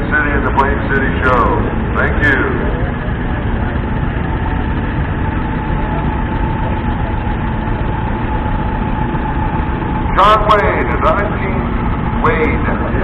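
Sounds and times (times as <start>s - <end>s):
tractor engines running: 0.0s - 13.0s.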